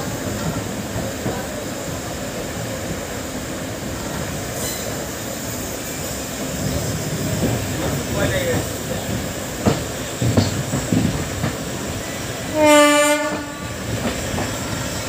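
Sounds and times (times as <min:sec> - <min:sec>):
train rumbling over rails: 0:00.0 - 0:15.0.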